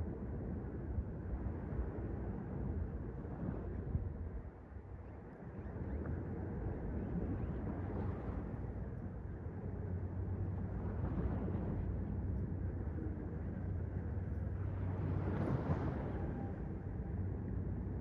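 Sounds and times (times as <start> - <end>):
low wind rumble on microphone: 0.0 - 18.0.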